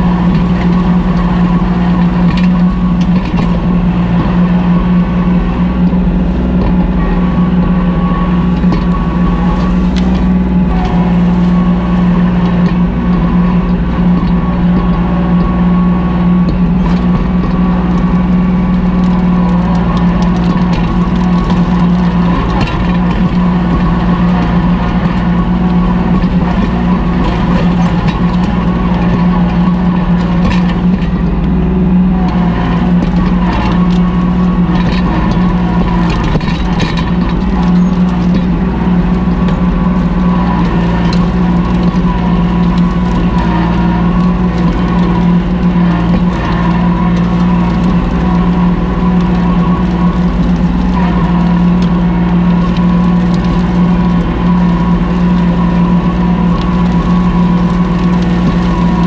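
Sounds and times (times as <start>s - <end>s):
rattles and knocks: 0.0s - 59.0s
tractor diesel engine running: 0.0s - 59.0s.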